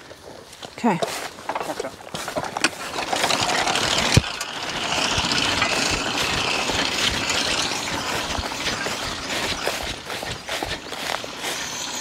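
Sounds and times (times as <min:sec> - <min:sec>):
mower rapid clatter: 0:01.4 - 0:12.0.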